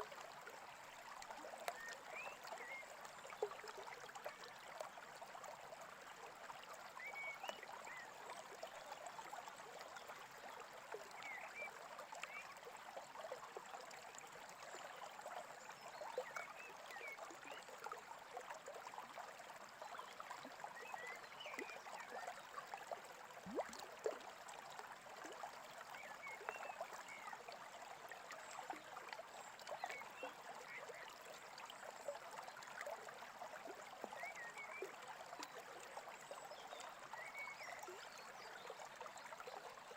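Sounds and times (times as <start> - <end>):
brook trickling and gurgling: 0.0 - 39.9.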